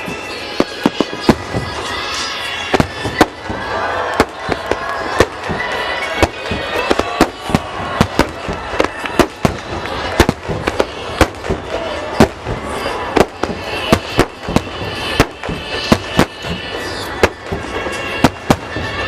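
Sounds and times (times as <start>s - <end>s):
background music: 0.0s - 19.0s
fireworks bangs: 0.0s - 19.0s.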